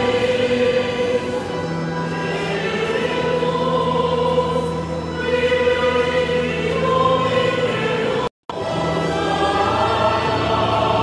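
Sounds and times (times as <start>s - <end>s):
slow sacred choral music: 0.0s - 11.0s.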